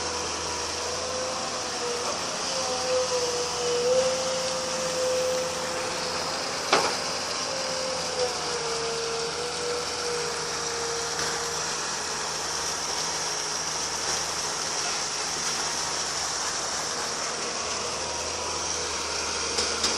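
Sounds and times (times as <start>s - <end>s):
excavator engine hum: 0.0s - 19.9s
pump hiss: 0.0s - 19.9s.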